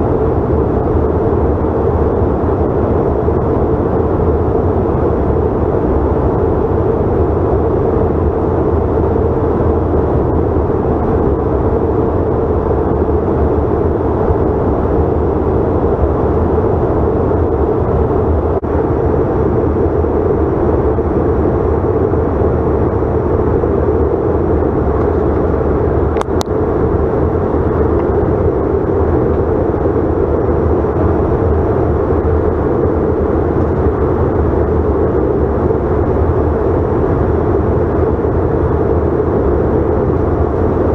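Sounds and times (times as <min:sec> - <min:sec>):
airplane cabin engine hum: 0:00.0 - 0:40.9.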